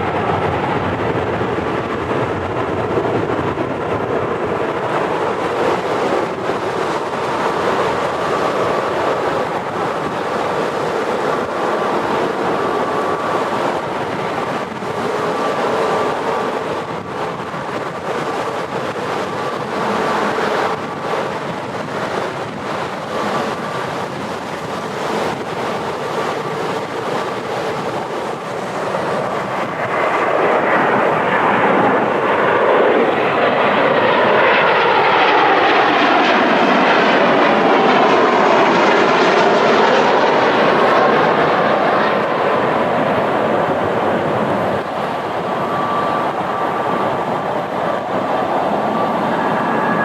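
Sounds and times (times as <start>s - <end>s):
jet engine passing: 0.0s - 50.0s
wind buffeting microphone: 0.0s - 50.0s.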